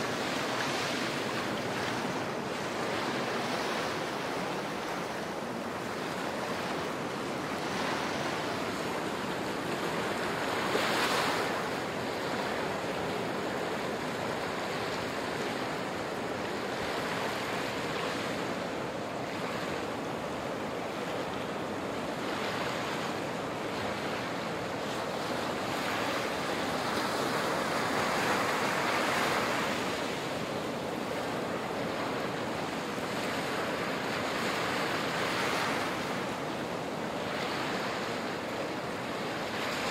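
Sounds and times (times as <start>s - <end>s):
small waves washing on sandy beach: 0.0s - 39.9s.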